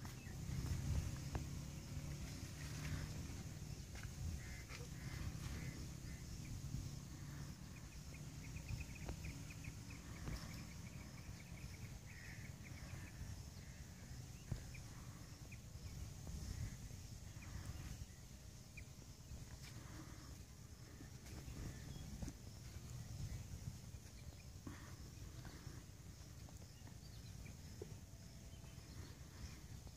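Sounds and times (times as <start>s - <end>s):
birds chirping: 0.0s - 29.9s
steady low rumble: 0.0s - 29.9s.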